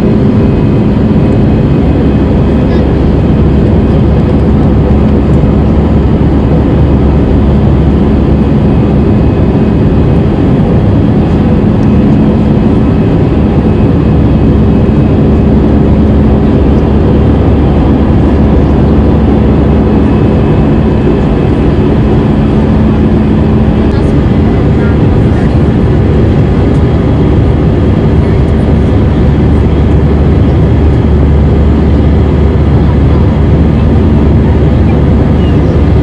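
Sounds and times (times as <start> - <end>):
constant hum: 0.0 - 36.0
jet engine drone in cabin: 0.0 - 36.0.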